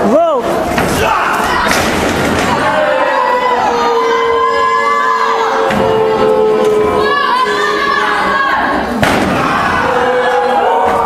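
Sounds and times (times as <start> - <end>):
crowd noise and voices: 0.0 - 11.0.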